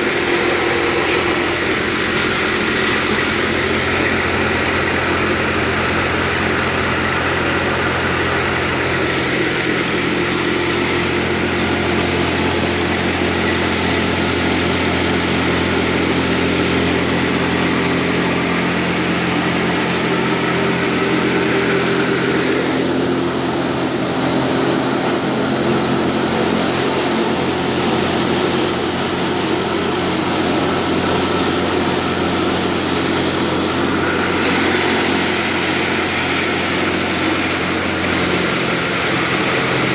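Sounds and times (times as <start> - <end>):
grain machinery whirring: 0.0 - 39.9.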